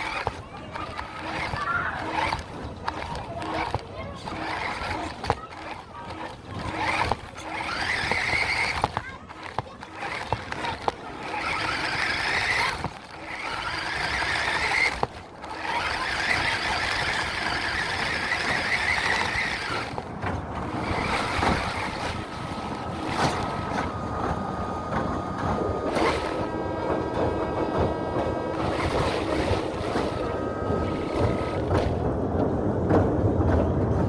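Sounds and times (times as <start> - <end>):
toy truck motor whining: 0.0 - 32.0.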